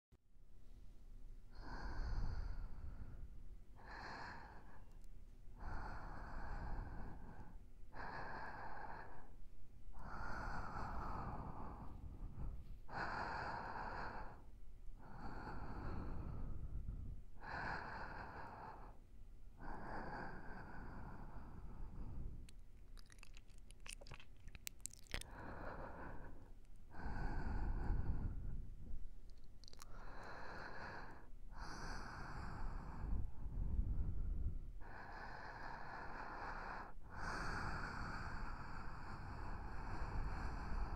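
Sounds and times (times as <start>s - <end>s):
soft breathing close to microphone: 1.4s - 40.9s.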